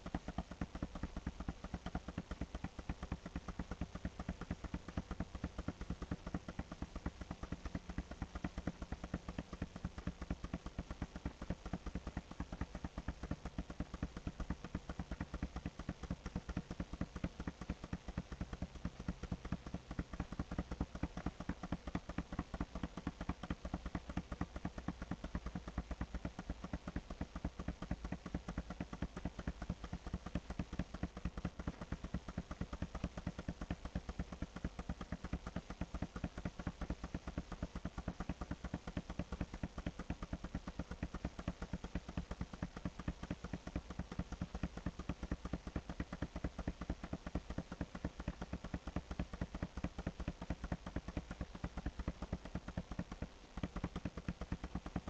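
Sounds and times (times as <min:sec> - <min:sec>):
rapid even clicking: 0:00.0 - 0:55.0.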